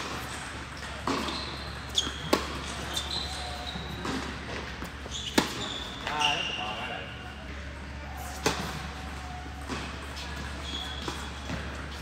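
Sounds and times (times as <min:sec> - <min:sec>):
rackets striking tennis ball: 0:00.0 - 0:06.8, 0:08.2 - 0:12.0
shoes squeaking on court: 0:00.0 - 0:12.0.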